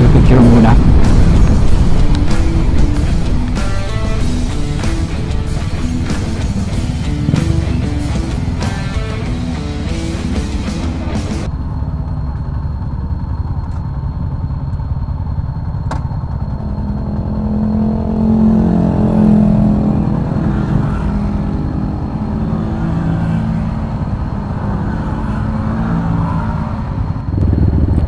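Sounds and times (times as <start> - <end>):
motorcycle passing by: 0.0 - 11.5, 16.5 - 28.0
motorcycle engines idling: 0.0 - 17.6, 21.1 - 28.0.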